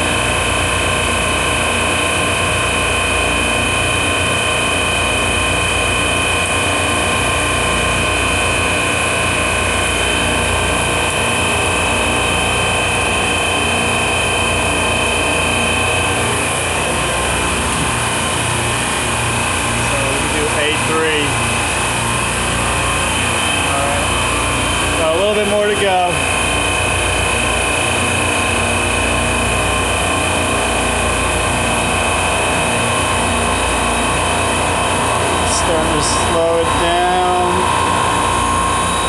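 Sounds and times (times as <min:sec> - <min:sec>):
compressors droning: 0:00.0 - 0:39.0
high whine: 0:00.0 - 0:39.0.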